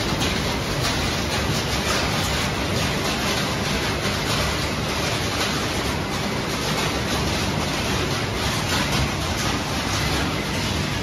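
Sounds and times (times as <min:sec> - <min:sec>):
shredding line running: 0:00.0 - 0:11.0.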